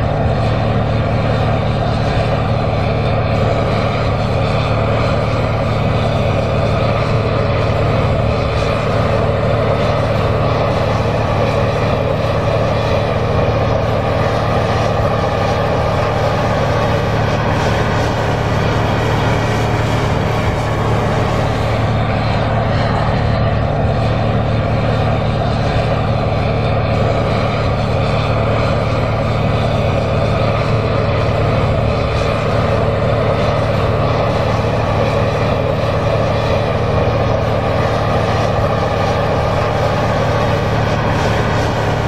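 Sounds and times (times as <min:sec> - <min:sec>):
tractor diesel engine droning: 0:00.0 - 0:42.0.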